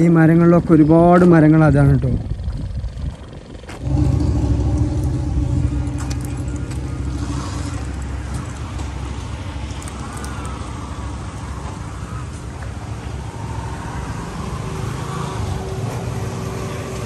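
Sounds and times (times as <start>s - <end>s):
vehicle engine running: 2.2s - 17.0s.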